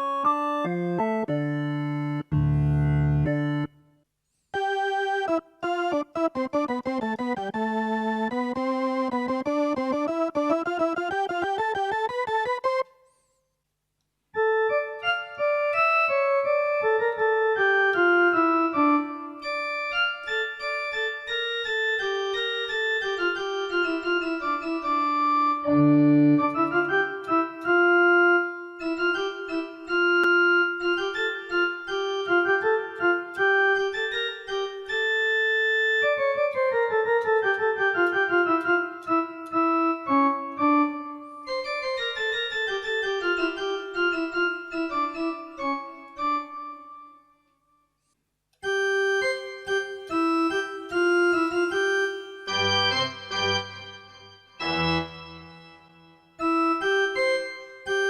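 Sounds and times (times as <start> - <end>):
keyboard organ melody: 0.0 - 3.9, 4.6 - 13.0, 14.4 - 47.5, 48.6 - 58.0.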